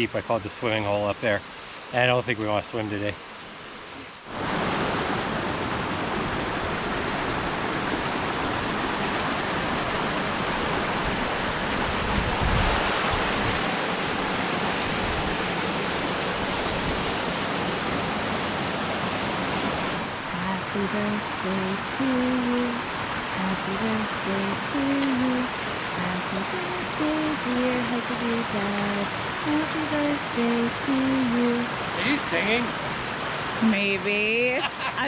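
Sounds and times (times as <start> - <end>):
waterfall rushing: 0.1 - 35.0.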